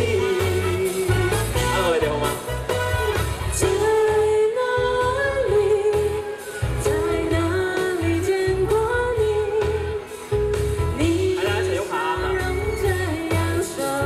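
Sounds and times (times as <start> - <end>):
woman singing pop song: 0.0 - 2.1, 3.4 - 14.0
amplified backing music: 0.0 - 14.0.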